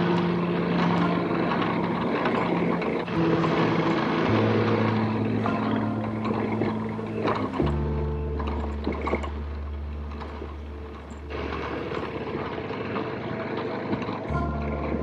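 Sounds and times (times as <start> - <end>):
background music with low notes: 0.0 - 15.0
steady noisy hiss: 0.0 - 15.0.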